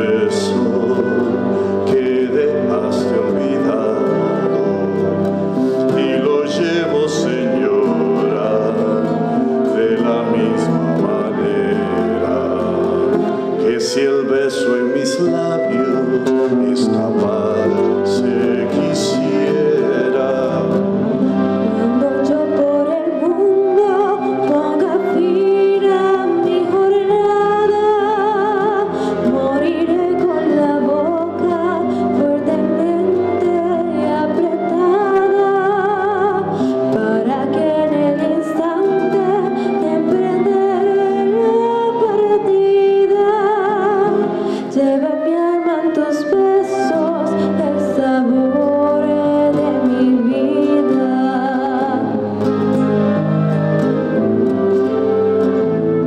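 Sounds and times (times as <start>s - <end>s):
woman singing with vibrato: 0.0s - 53.4s
acoustic guitar: 0.0s - 56.0s.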